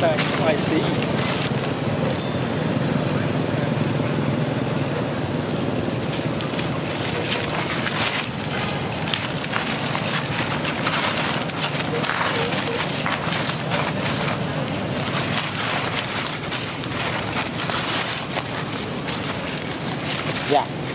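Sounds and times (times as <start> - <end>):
dry leaves crackling and rustling: 0.0 - 3.1, 4.7 - 20.9
steady rushing noise: 2.8 - 20.9.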